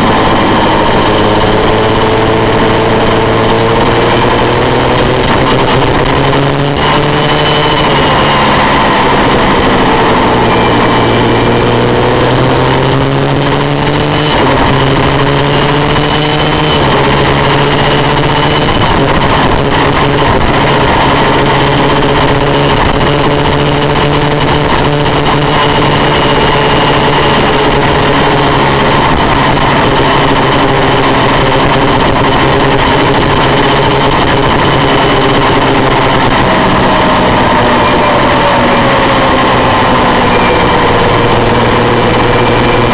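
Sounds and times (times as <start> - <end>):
motorcycle engine running hard: 0.0 - 42.9
wind rush: 0.0 - 42.9.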